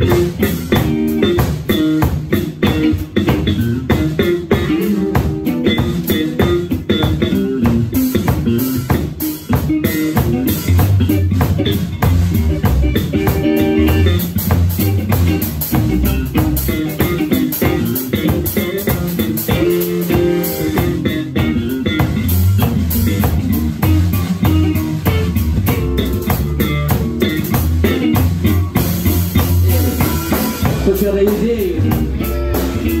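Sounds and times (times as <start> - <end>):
drum kit beat: 0.0 - 33.0
electric bass: 0.0 - 33.0
electric guitar: 0.0 - 33.0.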